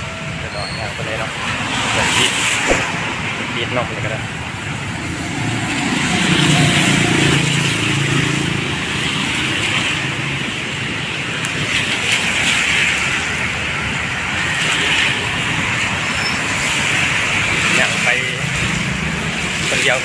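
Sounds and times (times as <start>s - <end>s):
wind and road noise: 0.0s - 20.0s.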